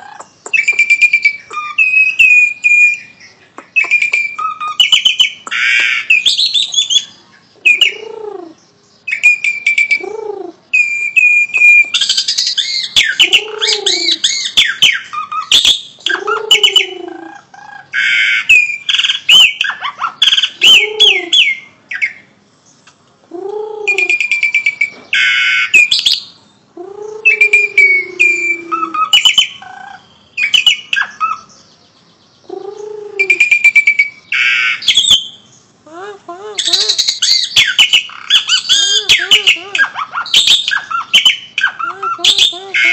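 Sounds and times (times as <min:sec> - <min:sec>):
starling singing: 0:00.0 - 0:42.9.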